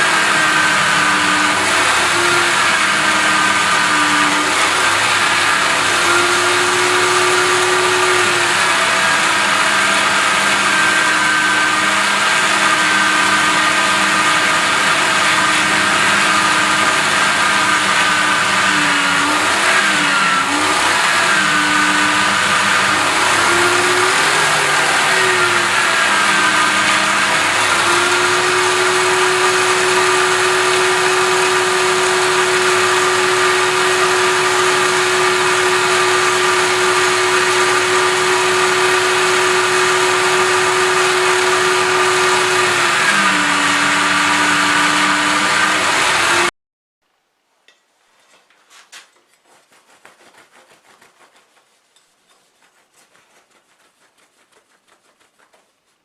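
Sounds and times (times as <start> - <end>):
electric grinder brush on metal: 0.0 - 46.5.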